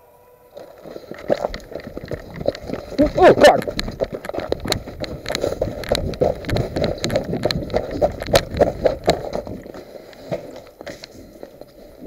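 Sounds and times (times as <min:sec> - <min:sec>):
running footsteps crunching on snow: 0:00.5 - 0:12.0.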